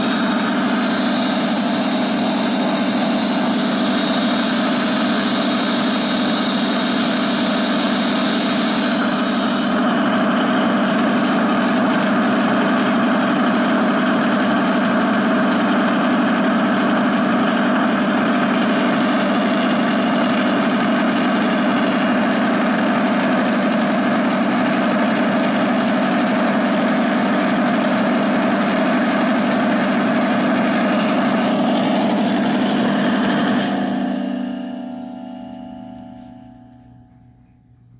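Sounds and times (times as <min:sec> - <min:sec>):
steady mechanical drone: 0:00.0 - 0:37.9.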